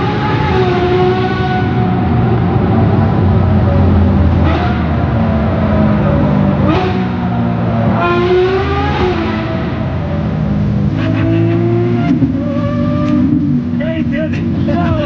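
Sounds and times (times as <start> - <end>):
racing engines running hard: 0.0 - 15.0.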